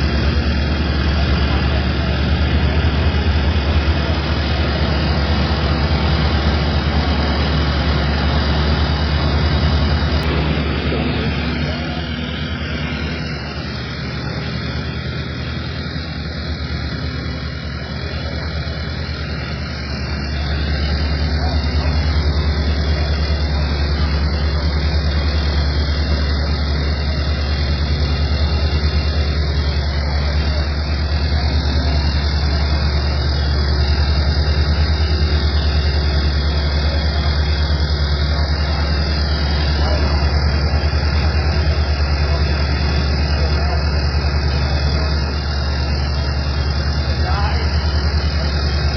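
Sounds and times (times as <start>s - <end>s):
broad mechanical noise: 0.0s - 48.9s
low engine hum: 0.0s - 48.9s.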